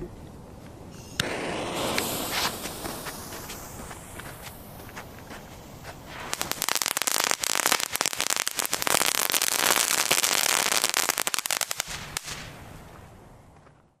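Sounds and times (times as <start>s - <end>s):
sparks hissing: 0.9s - 12.6s
fireworks crackling: 0.9s - 13.1s.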